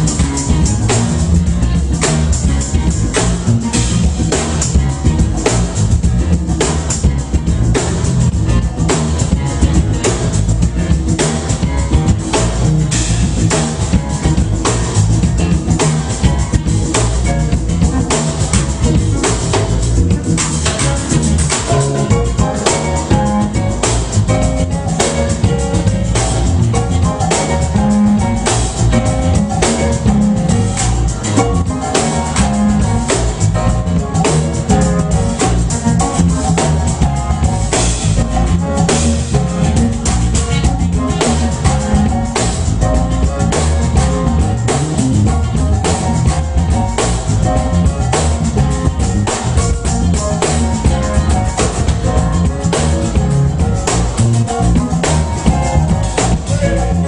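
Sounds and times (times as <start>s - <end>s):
drum kit beat: 0.0s - 57.0s
electric guitar: 0.0s - 57.0s
keyboard: 0.0s - 57.0s.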